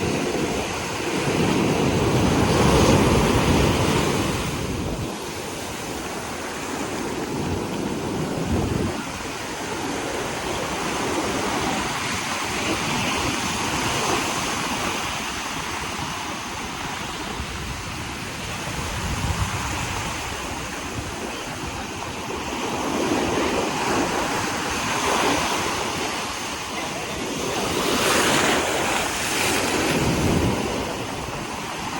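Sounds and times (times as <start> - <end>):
sea surf breaking: 0.0 - 31.9.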